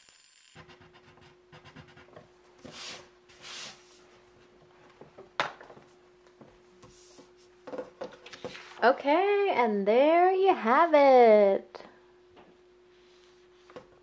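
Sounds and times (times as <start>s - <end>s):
faint steady hum: 0.1s - 14.0s.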